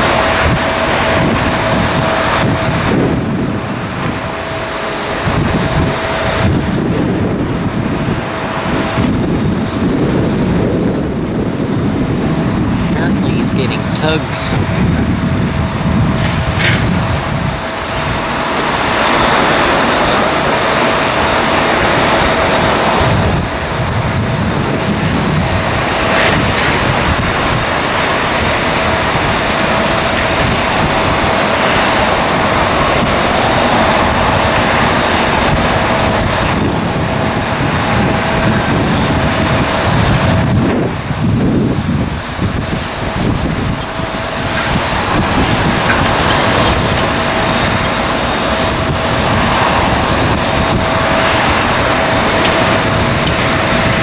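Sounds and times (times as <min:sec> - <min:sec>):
jet engine roar with whine: 0:00.0 - 0:54.0
wind buffeting microphone: 0:00.0 - 0:54.0.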